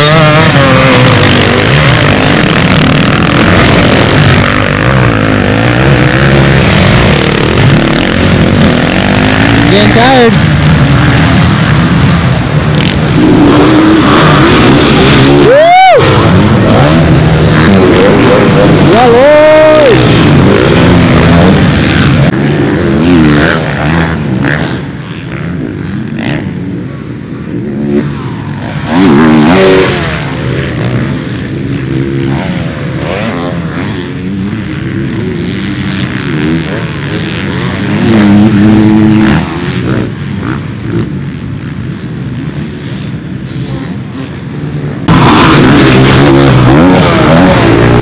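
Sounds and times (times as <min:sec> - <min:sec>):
dirt bike engines revving: 0:00.0 - 0:48.0.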